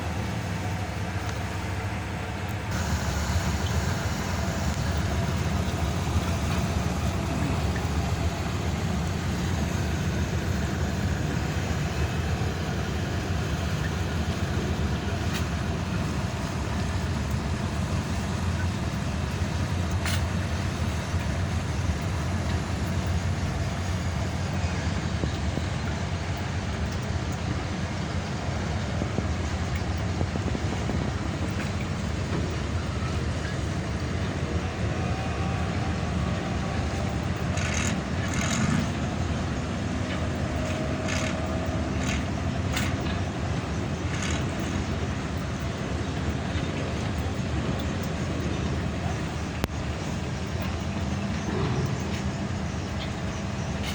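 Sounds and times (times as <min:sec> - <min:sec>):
low engine rumble: 0:00.0 - 0:53.9.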